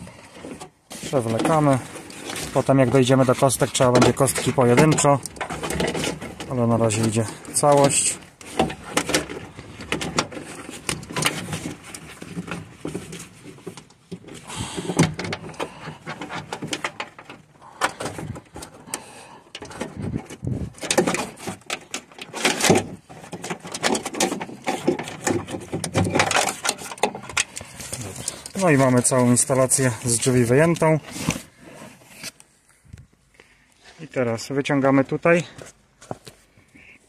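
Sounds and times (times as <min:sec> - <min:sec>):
wiring harness scraping and clicking: 0:00.0 - 0:32.5.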